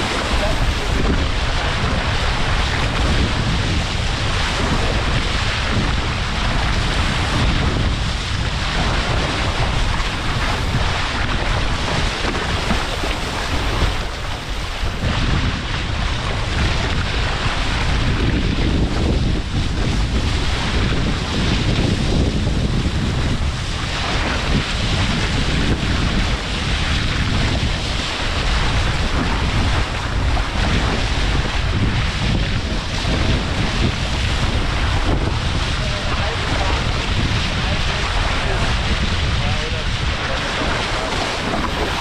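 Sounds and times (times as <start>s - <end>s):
water rushing along hulls: 0.0s - 42.0s
wind buffeting microphone: 0.0s - 42.0s.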